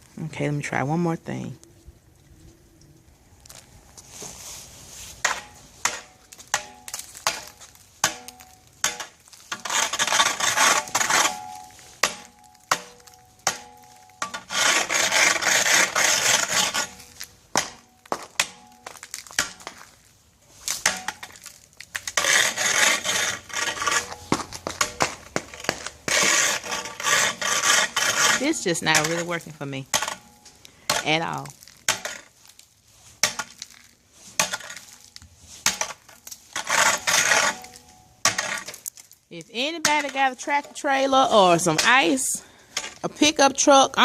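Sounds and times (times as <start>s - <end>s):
ice scraping: 3.4s - 30.4s, 31.0s - 44.0s.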